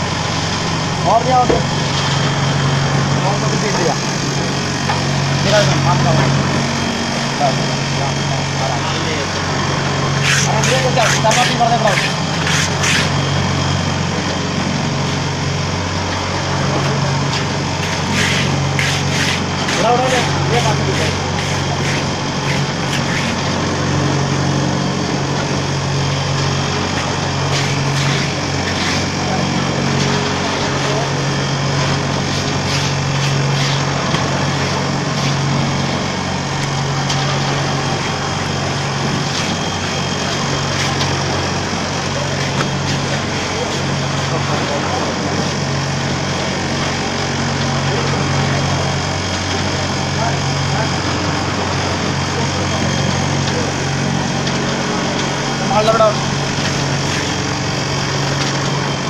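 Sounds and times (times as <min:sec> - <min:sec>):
electric motor hum: 0:00.0 - 0:59.0
steel table buzzing rattle: 0:00.0 - 0:59.0.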